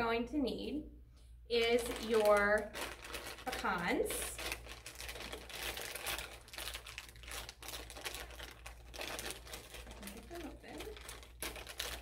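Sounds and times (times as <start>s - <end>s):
plastic bags crinkling: 1.5s - 12.0s.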